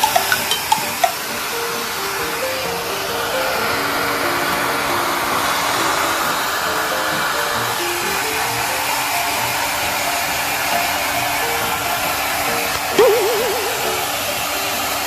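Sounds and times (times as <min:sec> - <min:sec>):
hair dryer running: 0:00.0 - 0:15.0
soft background melody: 0:00.0 - 0:15.0.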